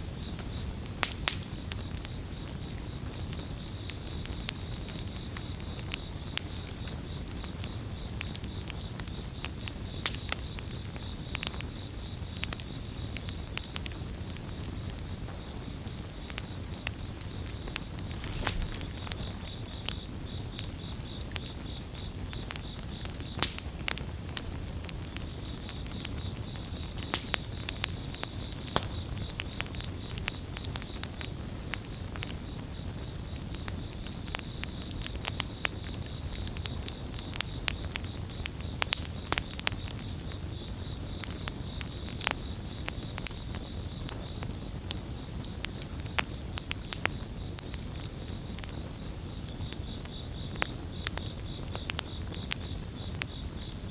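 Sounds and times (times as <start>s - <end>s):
campfire crackling and popping: 0.0s - 53.9s
crickets chirping: 0.0s - 53.9s.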